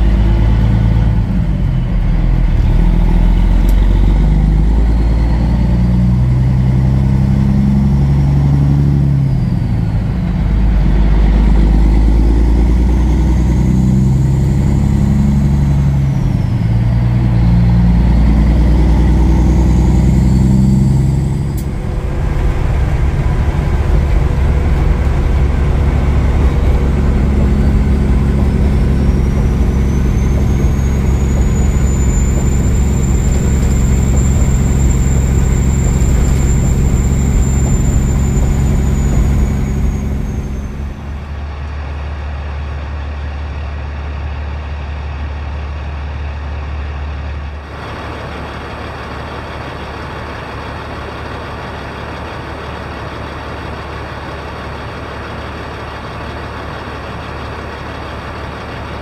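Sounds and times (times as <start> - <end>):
truck diesel engine accelerating: 0.0 - 59.0.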